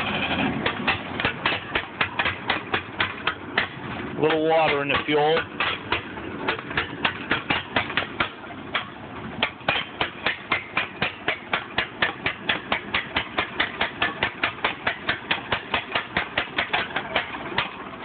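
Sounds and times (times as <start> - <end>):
engine running rough: 0.0 - 18.0.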